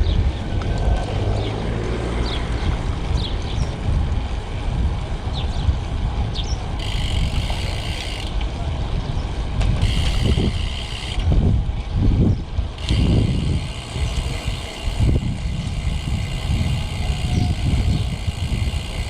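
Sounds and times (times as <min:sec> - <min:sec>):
low road rumble: 0:00.0 - 0:19.0
wind rushing over microphone: 0:00.0 - 0:19.0.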